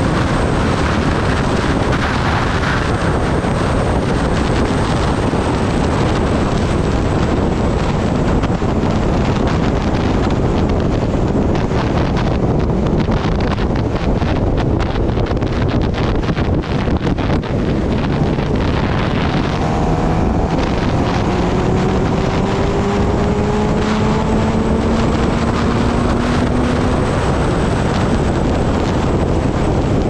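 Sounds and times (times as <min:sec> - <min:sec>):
motorcycle running: 0:00.0 - 0:30.0
wind buffeting microphone: 0:00.0 - 0:30.0.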